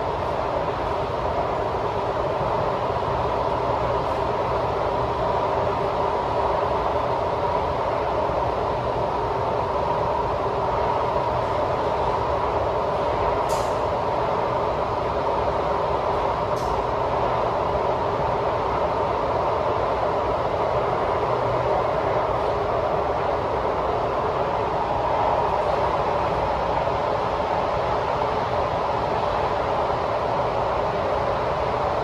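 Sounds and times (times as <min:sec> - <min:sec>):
train hum: 0:00.0 - 0:32.0.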